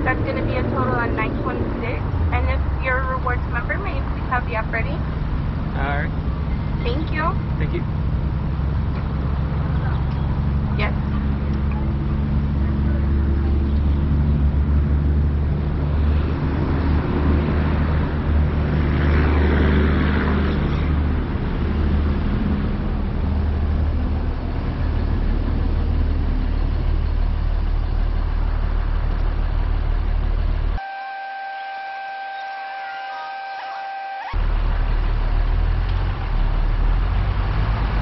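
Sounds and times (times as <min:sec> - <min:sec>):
car engine rumbling: 0:00.0 - 0:32.7, 0:34.2 - 0:38.0
road noise: 0:00.0 - 0:38.0.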